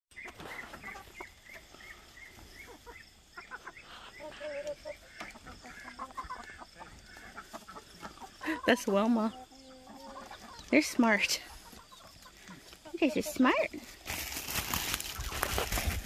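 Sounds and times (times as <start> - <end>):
hens clucking and chirping: 0.1 - 16.0.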